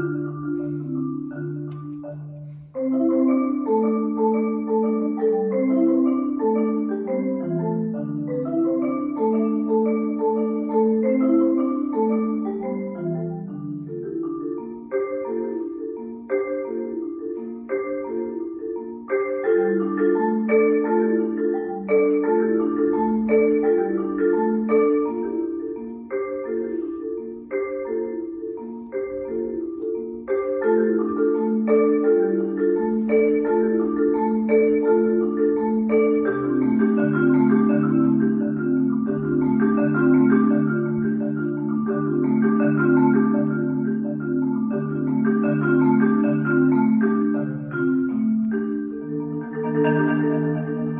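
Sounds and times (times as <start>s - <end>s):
marimba played with mallets: 0.0s - 50.9s.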